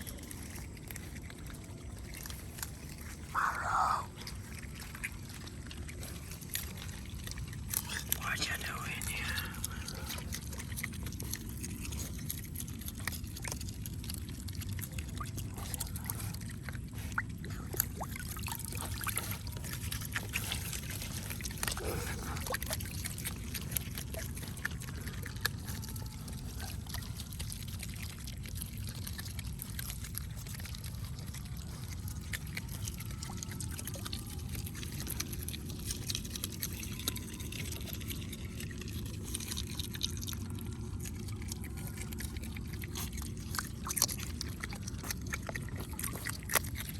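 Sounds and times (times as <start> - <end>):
water trickling and pouring: 0.0 - 46.9.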